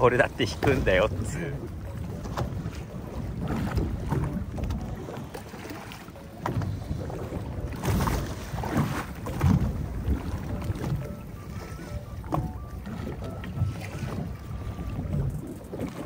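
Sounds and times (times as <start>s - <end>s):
boat knocks: 0.0s - 16.0s
water noise: 0.0s - 16.0s
wind buffeting microphone: 0.0s - 16.0s.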